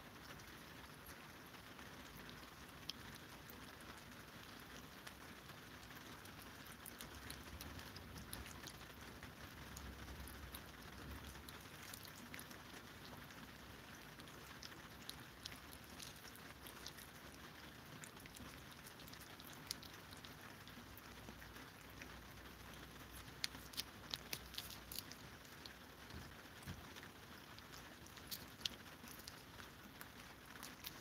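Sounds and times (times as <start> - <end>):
cats licking wet tongue clicks: 0.1 - 31.0.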